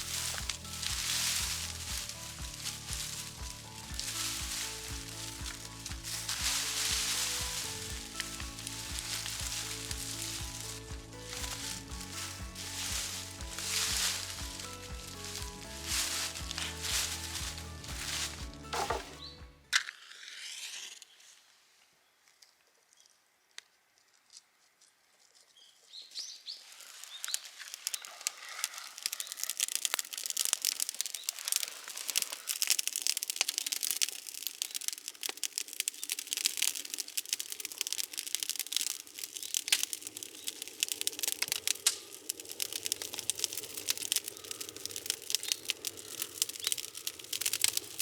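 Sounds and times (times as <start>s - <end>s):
dense irregular crackling: 0.0s - 19.4s, 26.6s - 48.0s.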